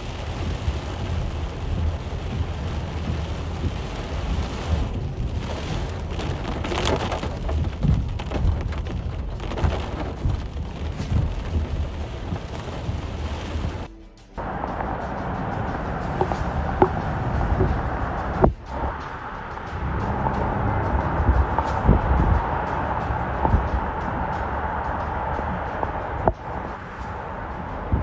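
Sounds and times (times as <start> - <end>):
deep uneven rumble: 0.0 - 28.0
heavy rain and wind on car: 0.0 - 28.0.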